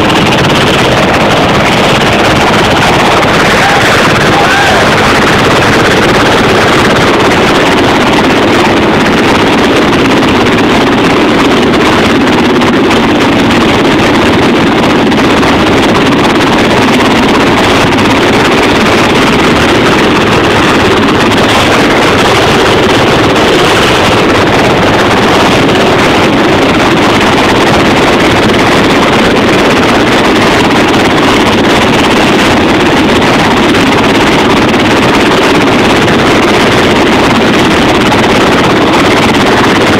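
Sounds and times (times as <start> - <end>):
ship engine rushing: 0.0 - 39.9
wind buffeting microphone: 0.0 - 39.9.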